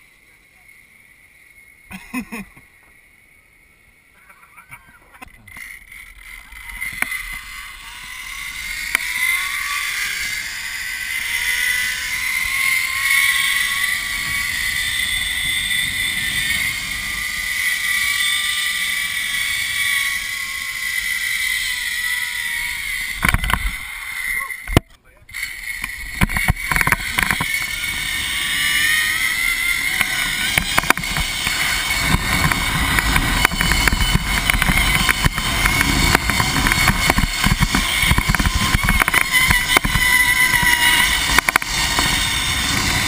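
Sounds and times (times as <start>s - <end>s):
zipline pulley whining on cable: 0.0s - 43.0s
wind on microphone: 6.2s - 43.0s.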